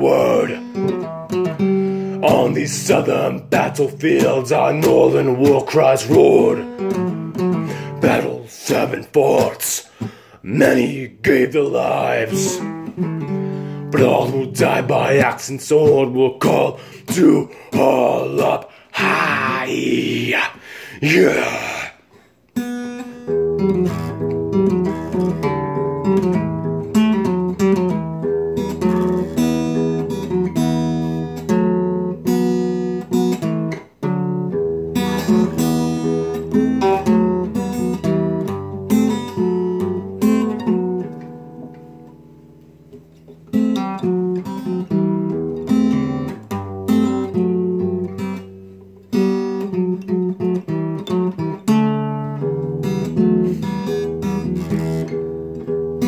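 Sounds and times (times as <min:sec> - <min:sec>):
acoustic guitar strummed: 0:00.0 - 0:56.0.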